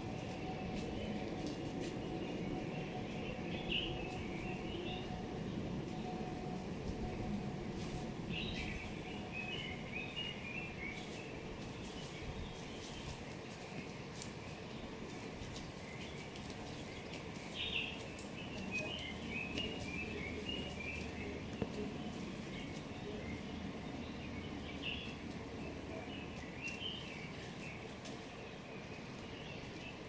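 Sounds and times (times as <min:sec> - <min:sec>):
birds chirping: 0:00.0 - 0:30.0
steady low background noise: 0:00.0 - 0:30.0.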